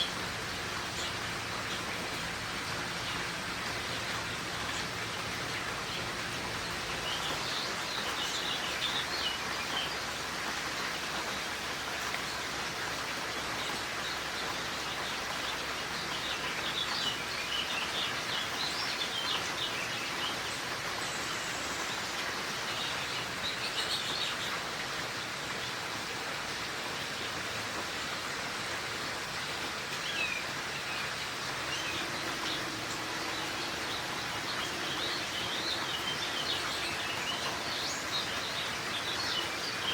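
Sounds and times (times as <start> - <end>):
rain falling: 0.0 - 39.9
songbirds chirping: 0.0 - 39.9.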